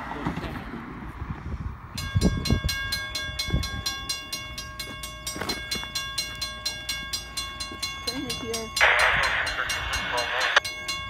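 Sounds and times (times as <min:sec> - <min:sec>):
railroad crossing bell ringing: 0:01.9 - 0:11.0.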